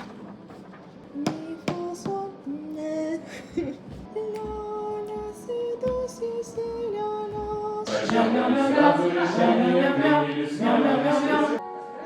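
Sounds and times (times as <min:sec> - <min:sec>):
woman singing unaccompanied: 0:01.1 - 0:11.6.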